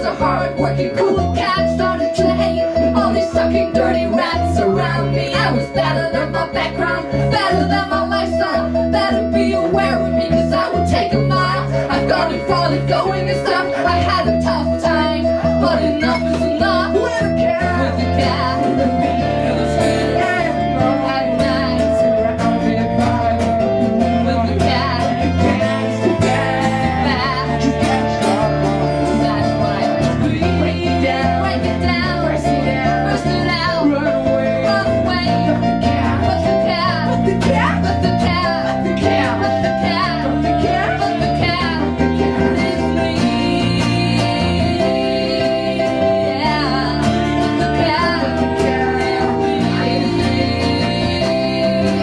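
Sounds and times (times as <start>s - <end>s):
live rock band instrumental: 0.0s - 52.0s.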